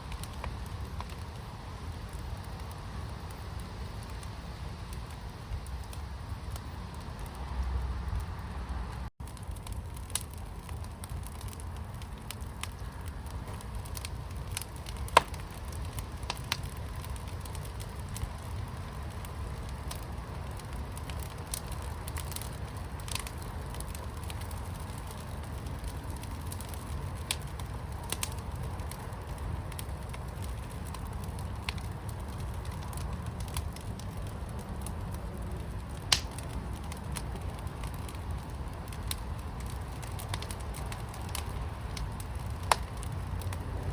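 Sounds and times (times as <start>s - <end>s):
fire crackling and popping: 0.0s - 43.9s
low rumble of fire: 0.0s - 43.9s.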